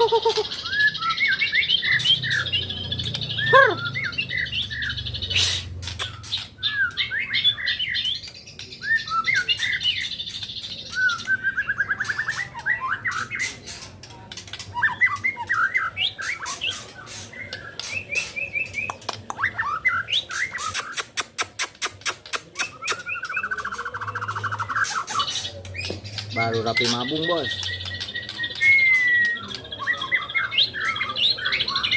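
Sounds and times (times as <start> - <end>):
songbird singing: 0.0 - 31.9.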